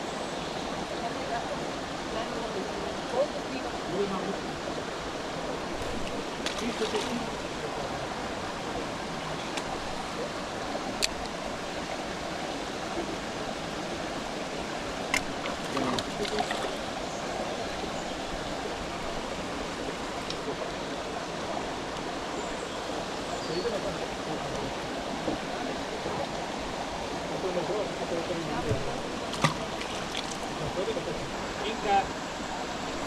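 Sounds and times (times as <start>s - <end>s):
stream rushing: 0.0s - 33.0s.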